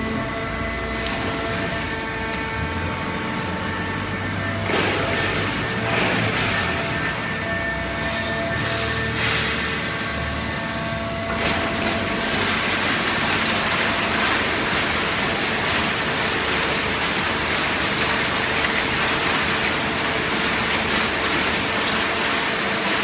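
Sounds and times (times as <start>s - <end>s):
baler machine running: 0.0s - 23.0s.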